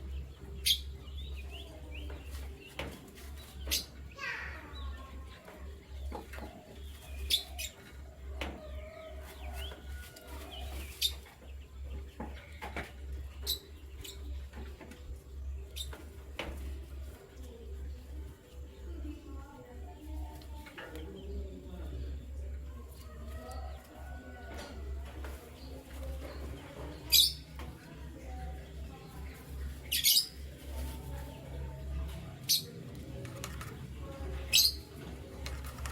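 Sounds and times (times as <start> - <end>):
canaries chirping: 0.0 - 35.9.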